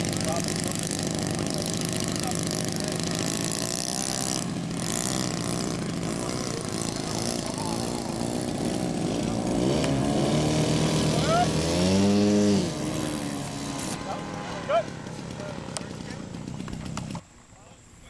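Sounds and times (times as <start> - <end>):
model airplane engine running: 0.0 - 17.2.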